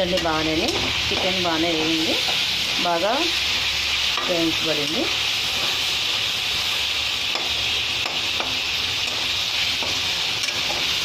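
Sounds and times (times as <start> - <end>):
chicken sizzling in oil: 0.0 - 11.0
spatula scraping wok: 0.0 - 11.0.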